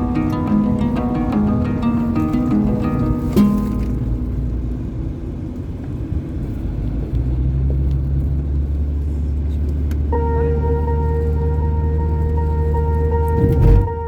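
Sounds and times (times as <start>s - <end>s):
vehicle engine low drone: 0.0s - 14.0s.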